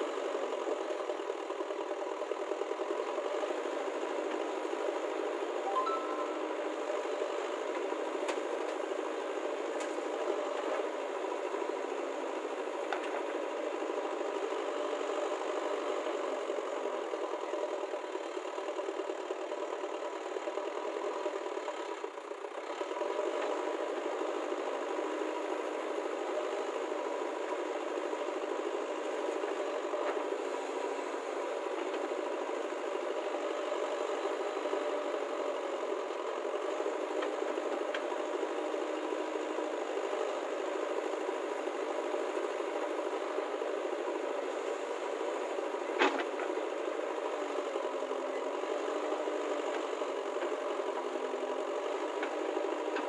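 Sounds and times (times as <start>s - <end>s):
backhoe diesel engine running: 0.0s - 53.0s
tractor engine idling: 0.1s - 53.0s.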